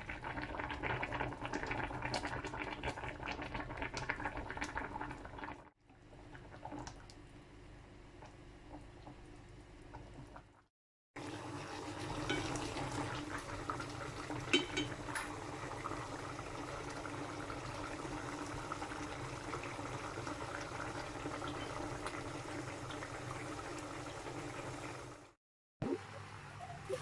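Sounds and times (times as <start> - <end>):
liquid bubbling in cooking pot: 0.0 - 27.0.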